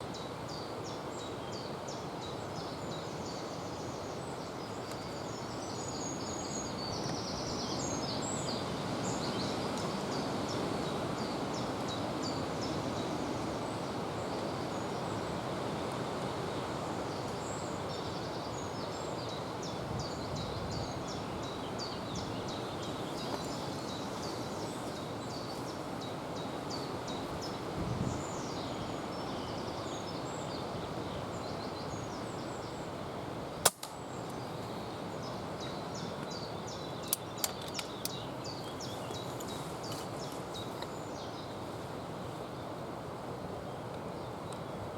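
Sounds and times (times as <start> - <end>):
small birds chirping: 0.0 - 15.4, 16.4 - 33.0, 34.0 - 42.8
outdoor rustle and hiss: 0.0 - 44.9.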